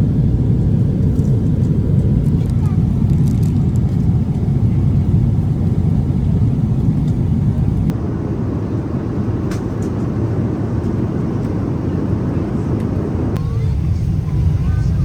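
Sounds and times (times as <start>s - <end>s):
jet cabin rumble: 0.0s - 15.0s.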